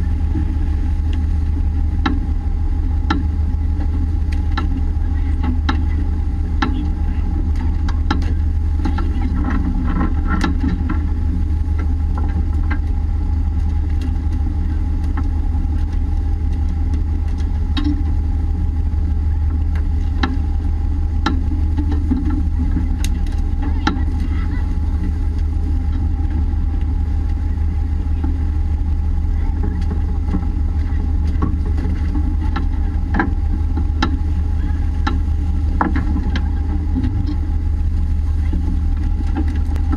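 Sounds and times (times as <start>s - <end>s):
boat engine hum and whine: 0.0s - 39.9s.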